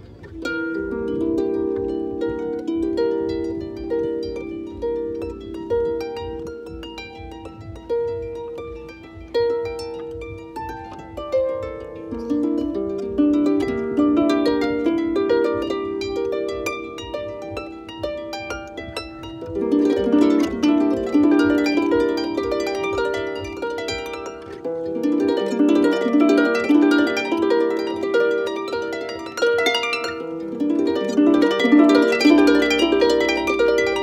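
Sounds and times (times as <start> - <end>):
harp plucked melody: 0.0 - 34.0.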